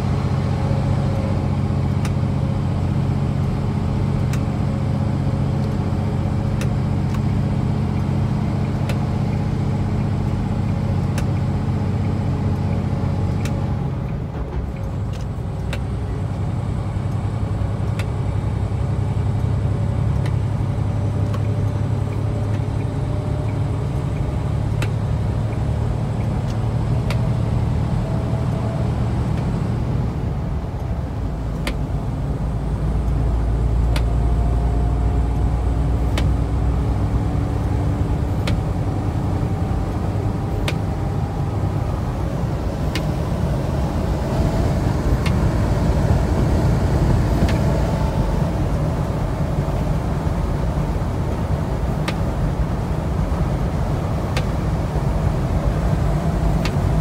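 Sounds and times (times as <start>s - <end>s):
diesel truck engine droning: 0.0s - 57.0s
road noise: 0.0s - 57.0s.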